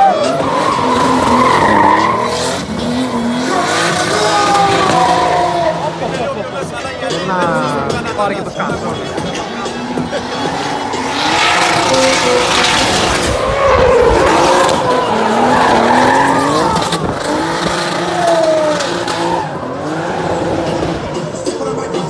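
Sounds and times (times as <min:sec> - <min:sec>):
car engine revving: 0:00.0 - 0:22.0
tyres squealing and skidding: 0:00.0 - 0:22.0.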